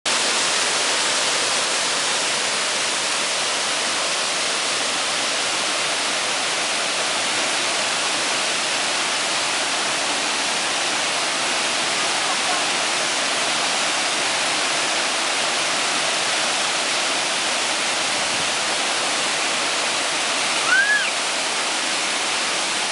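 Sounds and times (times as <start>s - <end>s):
waterfall rushing: 0.1s - 22.9s.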